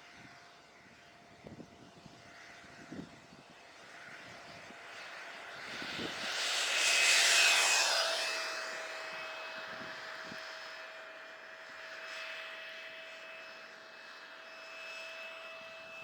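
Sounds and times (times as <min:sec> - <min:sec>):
model jet fans whining: 0:00.0 - 0:16.0.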